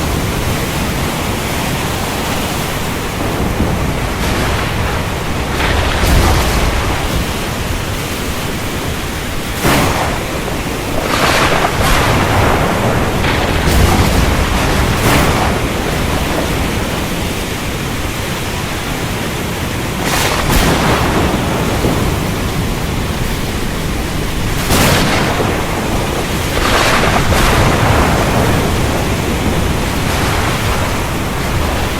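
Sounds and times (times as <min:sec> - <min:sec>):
low rumble of thunder: 0:00.0 - 0:19.2, 0:19.9 - 0:31.9
heavy rain: 0:00.0 - 0:31.9
sharp thunder cracks: 0:02.6 - 0:18.1, 0:20.0 - 0:31.9.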